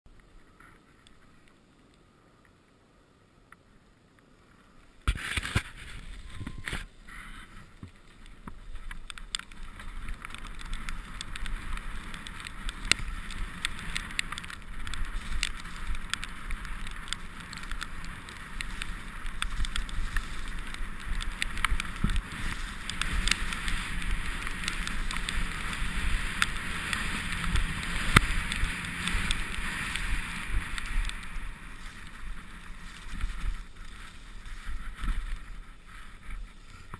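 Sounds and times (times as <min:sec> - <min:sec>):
bike tyres over mud: 0:03.7 - 0:36.9
bike rattling clicks and knocks: 0:05.1 - 0:36.9
wind on microphone: 0:05.1 - 0:36.9.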